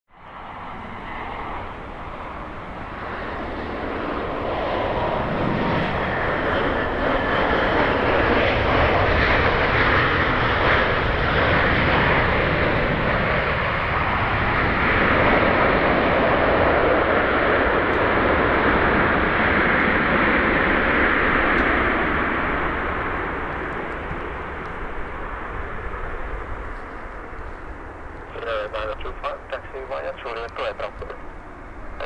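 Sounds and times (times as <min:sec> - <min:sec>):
jet engines rushing: 0:00.1 - 0:32.0.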